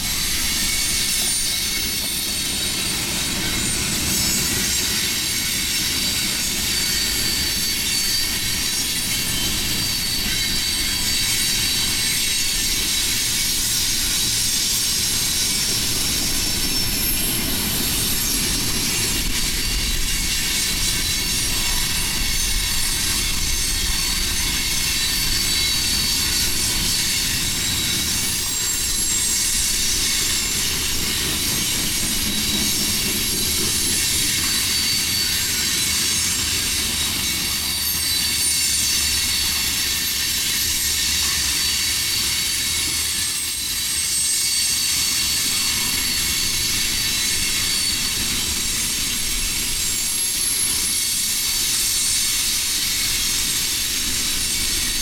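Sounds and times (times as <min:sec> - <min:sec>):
freight train cars rolling: 0:00.0 - 0:55.0.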